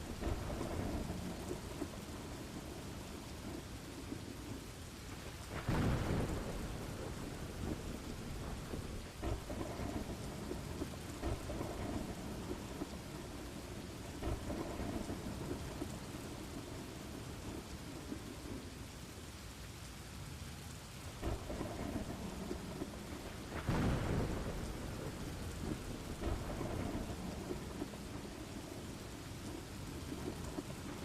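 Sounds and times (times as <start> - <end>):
thunderclap: 0.0 - 18.7, 21.2 - 31.0
thunder rumbling: 0.0 - 18.8, 21.1 - 31.0
steady rain: 0.0 - 31.0.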